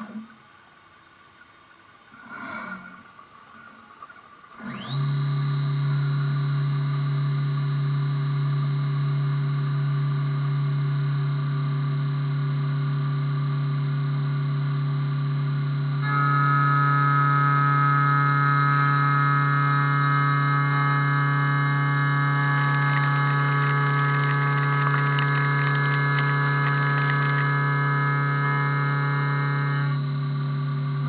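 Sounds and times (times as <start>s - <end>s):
low machine hum: 0.0s - 31.0s
milling spindle whine: 2.3s - 31.0s.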